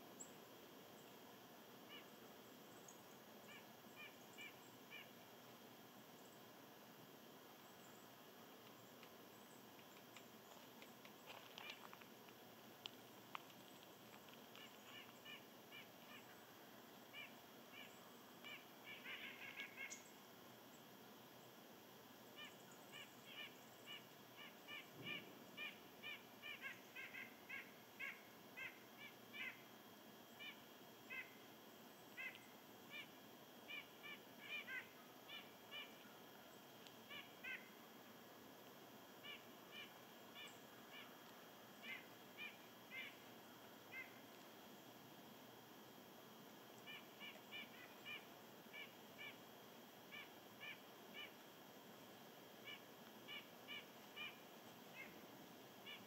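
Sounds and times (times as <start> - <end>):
steady low hiss: 0.0 - 56.0
faint bird calls: 1.8 - 5.4, 7.5 - 20.9, 22.3 - 38.1, 39.2 - 44.9, 46.7 - 51.5, 52.5 - 56.0.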